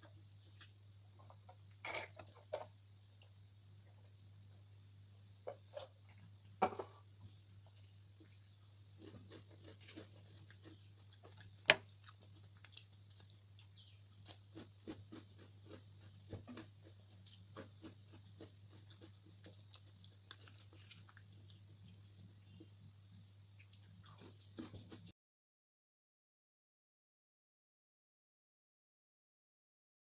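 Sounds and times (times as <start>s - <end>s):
crunchy chewing of cookies: 0.0s - 25.1s
steady low hum: 0.0s - 25.1s.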